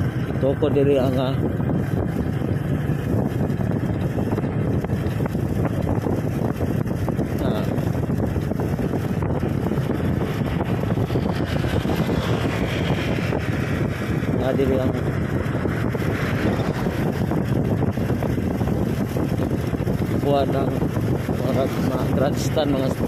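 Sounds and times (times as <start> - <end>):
motorcycle engine and tyre noise: 0.0 - 23.0
wind rushing over microphone: 0.0 - 23.0.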